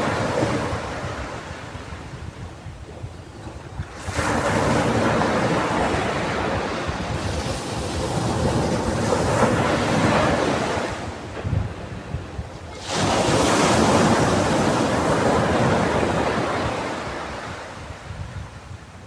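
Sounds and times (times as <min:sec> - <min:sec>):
ocean waves crashing on beach: 0:00.0 - 0:19.0
wind noise on microphone: 0:00.0 - 0:19.0.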